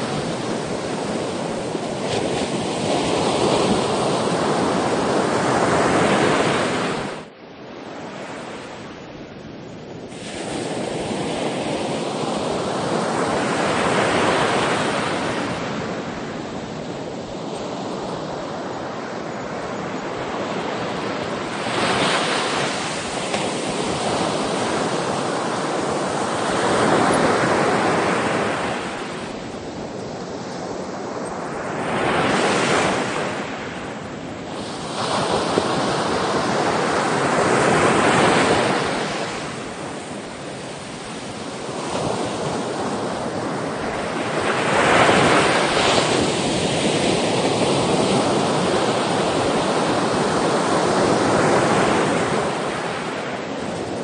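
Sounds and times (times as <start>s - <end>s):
ocean waves breaking on shore: 0.0s - 54.0s
steady surf noise: 0.0s - 54.0s.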